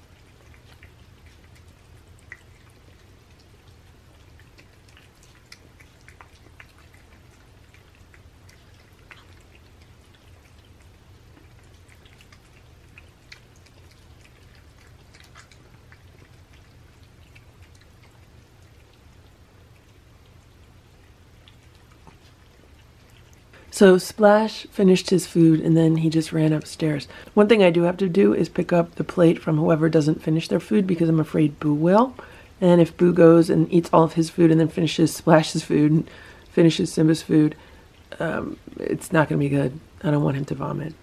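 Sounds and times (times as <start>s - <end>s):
cats chewing food: 0.0s - 41.0s
low steady hum: 0.0s - 41.0s.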